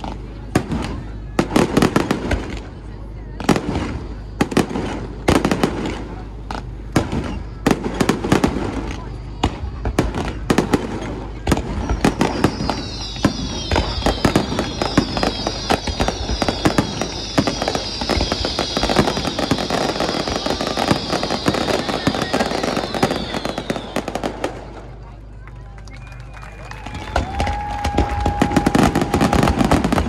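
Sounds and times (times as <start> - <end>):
fireworks crackling: 0.0 - 30.0
fireworks whistles falling in pitch: 3.4 - 25.1, 25.8 - 30.0.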